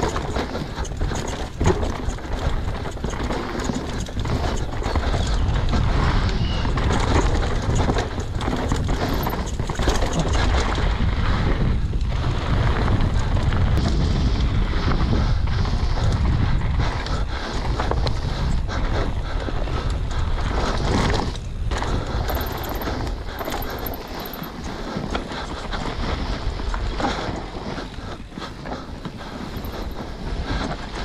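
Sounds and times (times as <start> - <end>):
bike knocking and rattling: 0.0 - 31.0
tyre and wind rush: 0.0 - 31.0.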